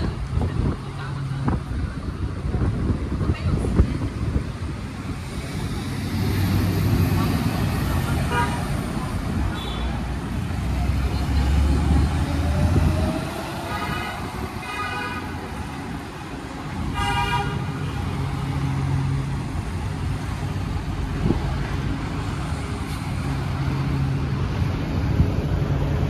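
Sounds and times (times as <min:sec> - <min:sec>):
street traffic engines: 0:00.0 - 0:26.0.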